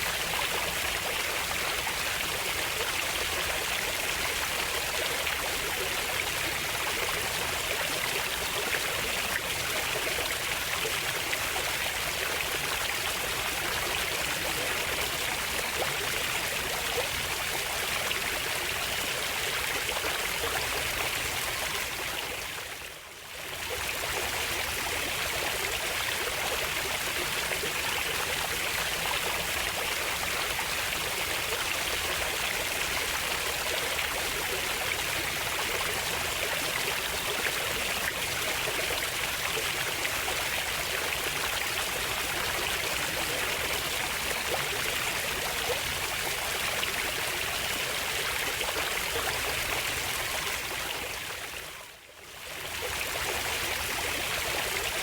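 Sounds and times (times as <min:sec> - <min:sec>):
stream running water: 0:00.0 - 0:55.0.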